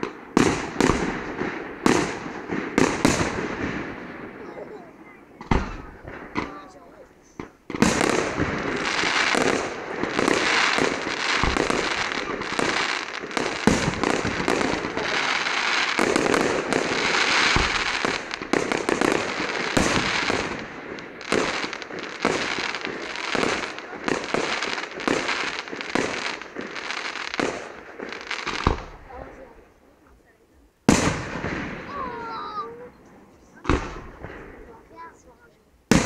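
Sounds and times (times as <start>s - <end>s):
firework bangs: 0.0s - 29.5s, 30.8s - 35.2s
firework crackling: 0.0s - 30.0s, 30.8s - 36.0s.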